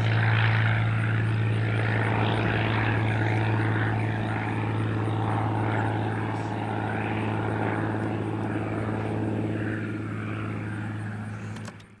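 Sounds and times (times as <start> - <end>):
small plane engine droning: 0.0 - 12.0.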